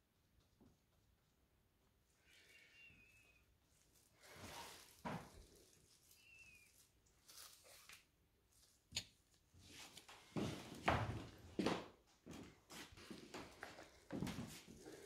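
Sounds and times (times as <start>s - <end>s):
faint rustling and handling: 0.3s - 15.0s.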